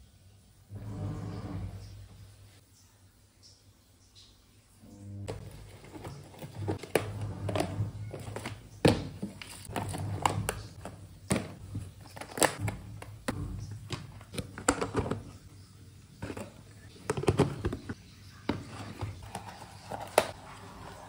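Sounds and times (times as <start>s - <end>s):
washing machine humming: 0.6s - 2.6s, 4.8s - 21.0s.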